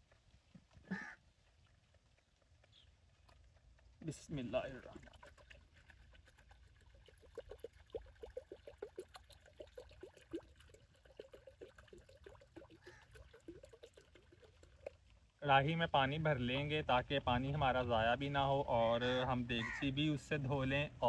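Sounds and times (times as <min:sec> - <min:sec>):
water pouring and gurgling: 0:00.0 - 0:18.6.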